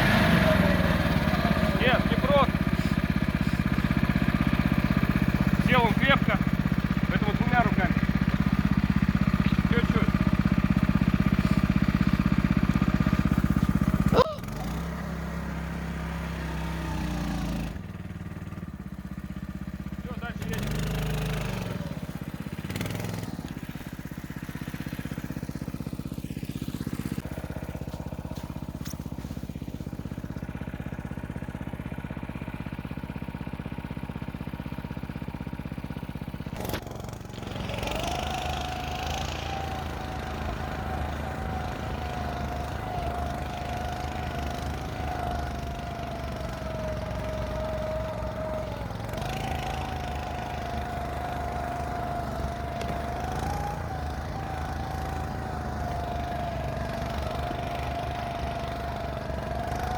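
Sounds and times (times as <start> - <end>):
snow scooter engine running: 0.0 - 59.9.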